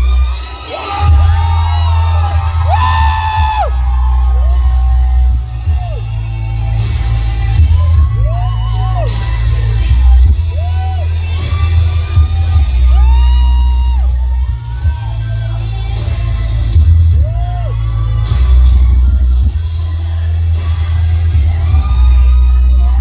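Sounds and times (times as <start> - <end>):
music with heavy bass: 0.0 - 23.0.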